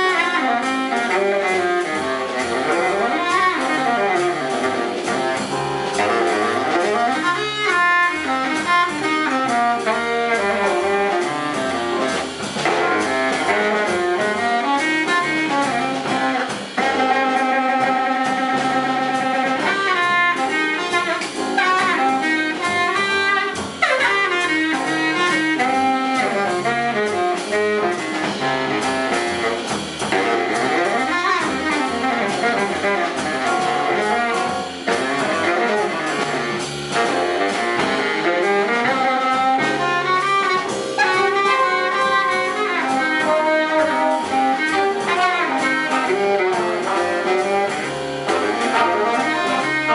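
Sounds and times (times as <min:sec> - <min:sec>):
big band playing swing: 0:00.0 - 0:49.9.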